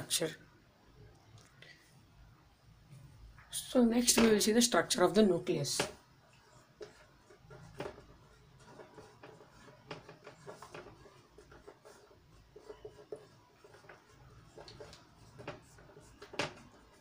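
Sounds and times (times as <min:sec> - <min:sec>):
marker pen writing on whiteboard: 0:02.9 - 0:17.0.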